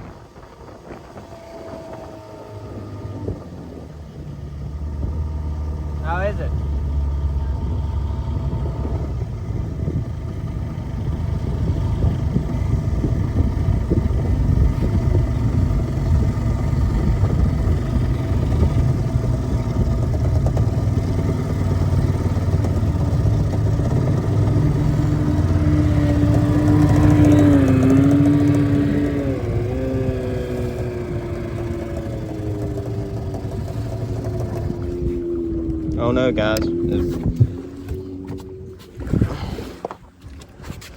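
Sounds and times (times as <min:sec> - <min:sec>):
boat motor rumbling: 0:00.0 - 0:40.9.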